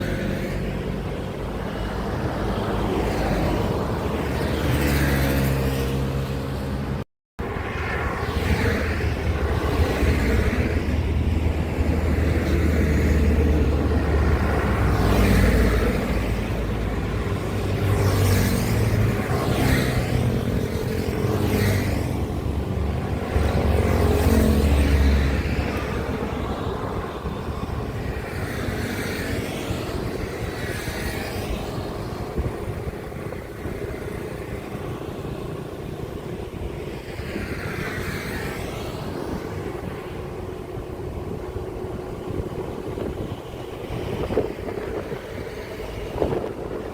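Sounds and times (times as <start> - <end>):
heavy trucks passing: 0.0 - 46.9.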